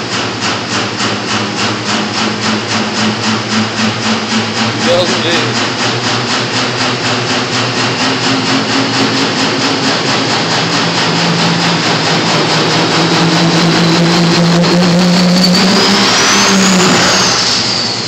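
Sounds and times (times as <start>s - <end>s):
diesel engine running under load: 0.0s - 18.0s
high whine: 1.1s - 18.0s.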